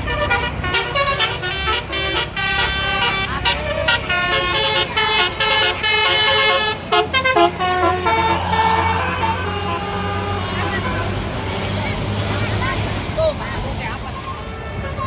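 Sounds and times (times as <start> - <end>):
musical bus horn tune: 0.0 - 11.7, 14.1 - 15.0
low engine rumble: 0.0 - 15.0.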